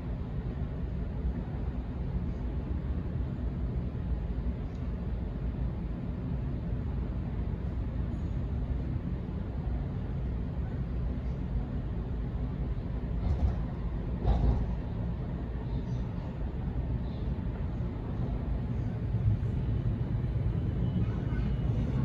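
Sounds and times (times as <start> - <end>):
electric train rumbling on track: 0.0 - 22.0.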